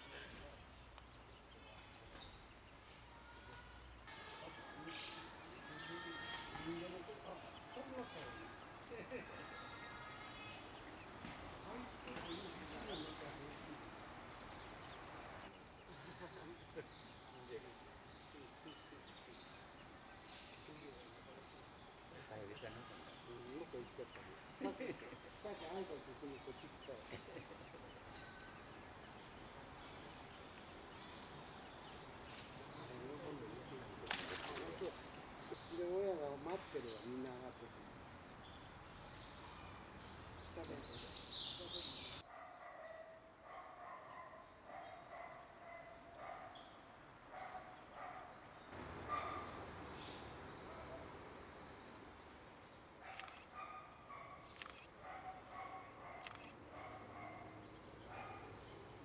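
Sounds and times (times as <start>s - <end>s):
faint outdoor hiss: 0.0s - 59.0s.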